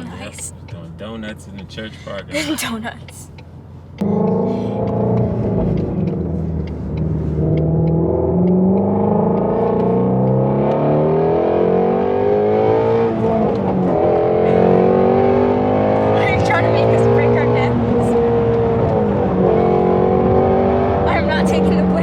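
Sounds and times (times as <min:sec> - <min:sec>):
car engine accelerating hard: 0:03.4 - 0:22.0.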